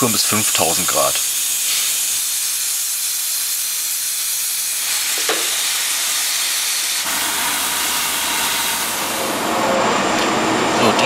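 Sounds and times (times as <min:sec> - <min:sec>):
cutting torch hissing: 0:00.0 - 0:09.8.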